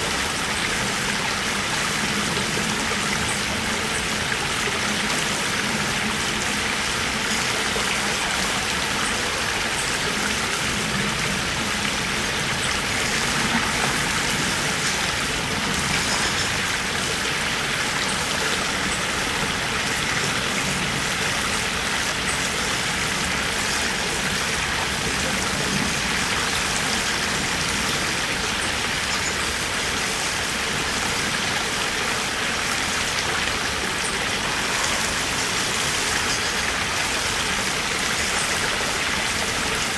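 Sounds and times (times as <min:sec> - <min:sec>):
river water running over gravel: 0:00.0 - 0:39.9.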